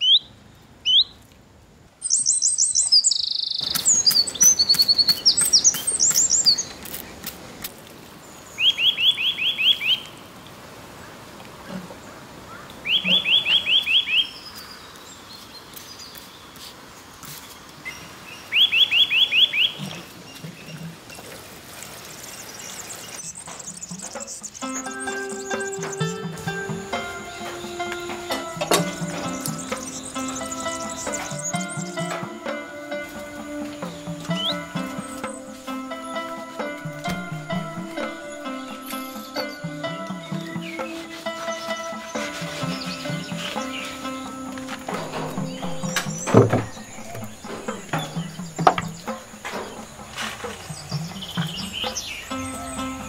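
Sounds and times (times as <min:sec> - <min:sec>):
birds singing: 0:00.0 - 0:01.2, 0:02.0 - 0:07.0, 0:08.2 - 0:10.3, 0:11.9 - 0:16.6, 0:17.8 - 0:21.4, 0:22.0 - 0:53.0.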